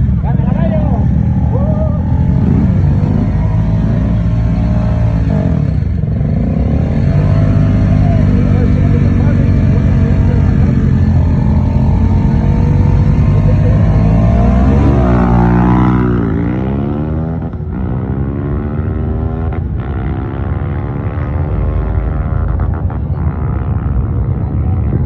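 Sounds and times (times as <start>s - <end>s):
motorcycle accelerating through gears: 0.0s - 25.0s.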